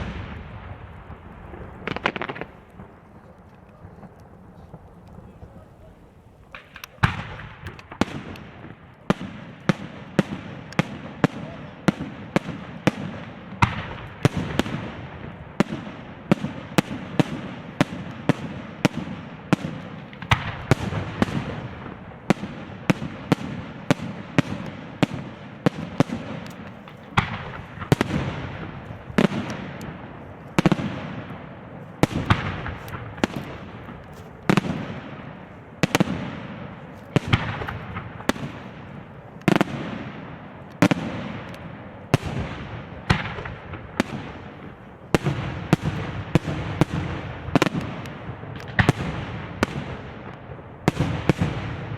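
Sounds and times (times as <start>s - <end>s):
fireworks bangs: 0.0s - 51.9s
fireworks crackling: 0.0s - 51.9s.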